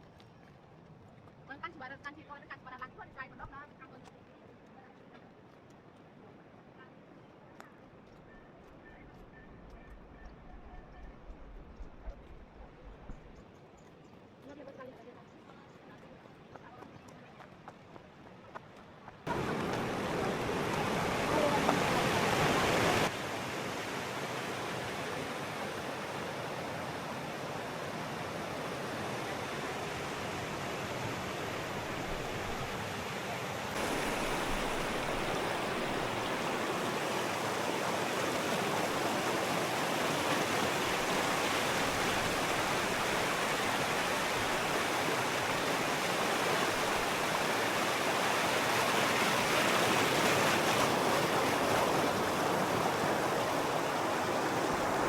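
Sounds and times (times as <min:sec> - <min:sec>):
flowing river water: 0:00.0 - 0:55.0.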